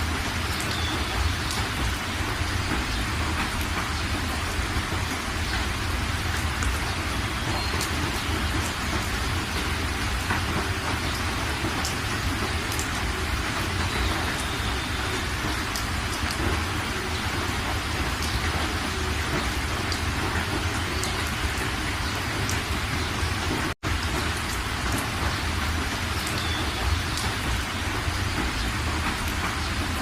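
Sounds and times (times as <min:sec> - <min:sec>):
raindrop ticks: 0:00.0 - 0:30.0
steady rain hiss: 0:00.0 - 0:30.0.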